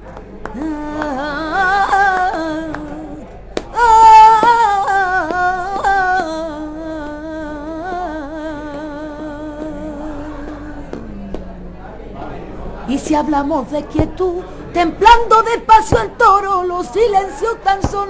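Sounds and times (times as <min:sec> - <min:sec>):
woman singing unaccompanied: 0:00.5 - 0:11.7, 0:12.9 - 0:18.0.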